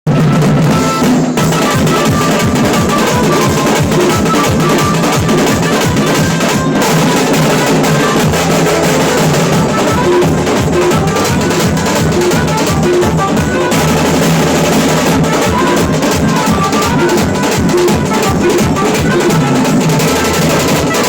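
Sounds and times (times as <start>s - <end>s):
bass drum beats: 0.1s - 21.0s
kettle drums rolling fast: 0.2s - 21.0s
melody line: 1.9s - 20.9s.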